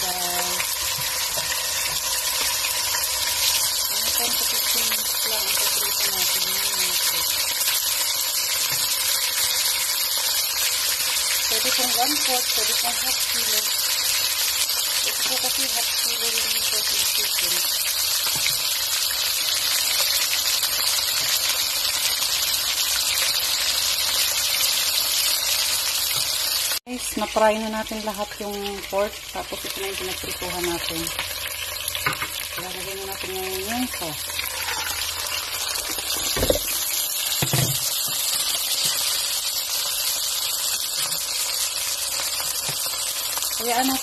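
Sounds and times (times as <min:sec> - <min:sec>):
meat sizzling in hot oil: 0:00.0 - 0:44.0.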